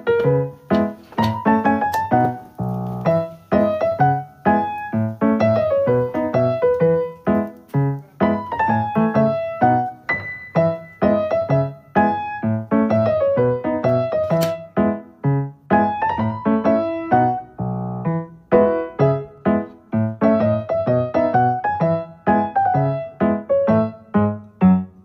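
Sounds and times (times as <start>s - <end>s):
piano melody: 0.0s - 25.0s.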